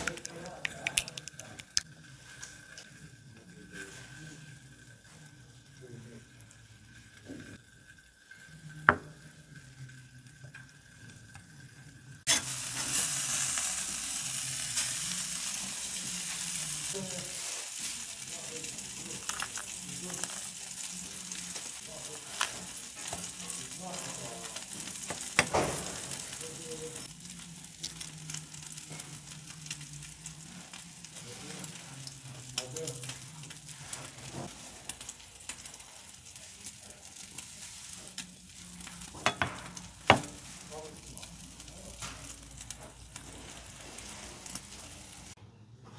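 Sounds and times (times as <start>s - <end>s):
burger patty sizzling and popping: 0.0s - 45.4s.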